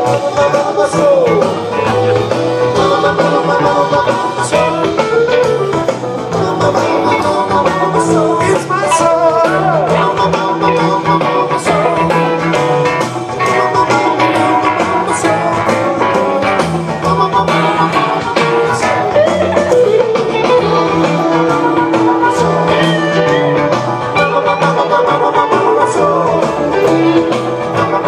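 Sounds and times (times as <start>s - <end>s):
electric guitar: 0.0s - 28.0s
rock band playing live: 0.0s - 28.0s.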